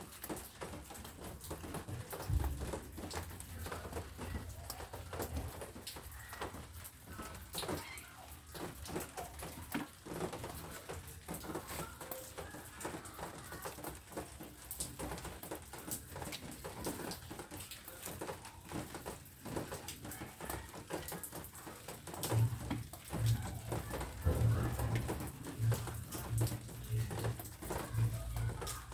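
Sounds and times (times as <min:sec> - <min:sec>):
rain pattering: 0:00.0 - 0:28.9.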